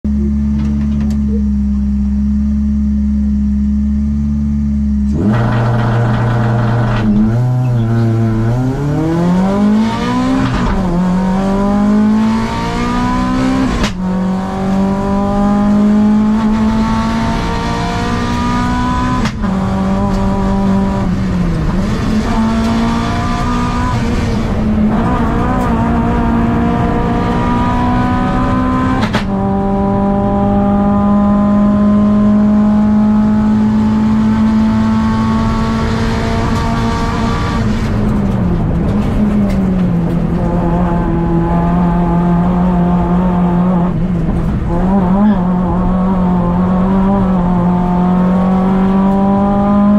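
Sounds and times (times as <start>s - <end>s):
car engine revving through gears: 3.7s - 49.9s.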